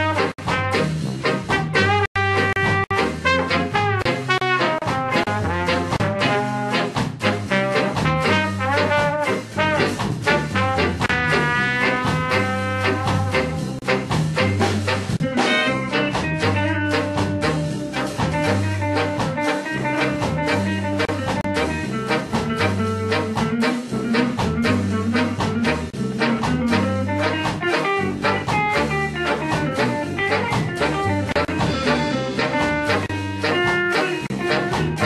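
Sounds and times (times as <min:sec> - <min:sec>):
bass: 0:00.0 - 0:35.0
saxophones and brass: 0:00.0 - 0:35.0
steady drum beat: 0:00.0 - 0:35.0.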